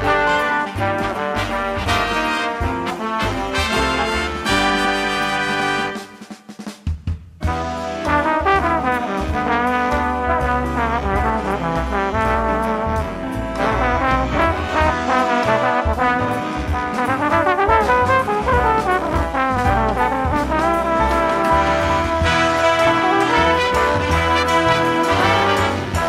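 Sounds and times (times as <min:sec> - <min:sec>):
big band jazz music: 0:00.0 - 0:26.0.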